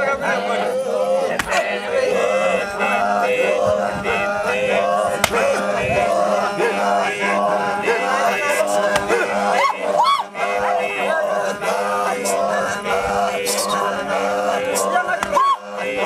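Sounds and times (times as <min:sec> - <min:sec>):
group singing a chant: 0:00.0 - 0:16.0.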